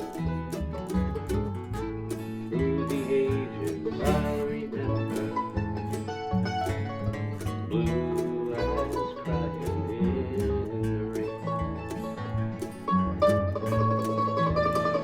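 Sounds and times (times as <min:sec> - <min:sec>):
slow country instrumental: 0:00.0 - 0:15.0.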